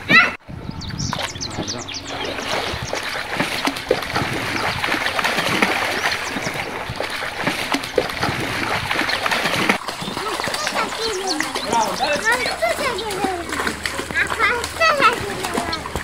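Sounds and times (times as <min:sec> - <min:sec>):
water splashing in pool: 0:00.0 - 0:16.0.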